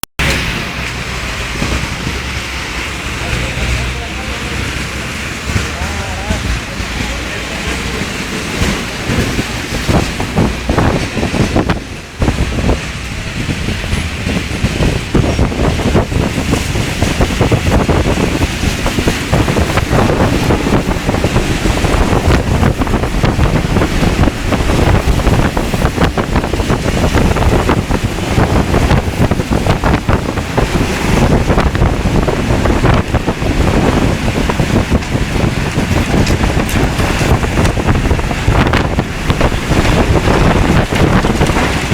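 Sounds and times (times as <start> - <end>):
wind and rain rushing: 0.0 - 41.9
wind buffeting microphone: 0.2 - 41.9.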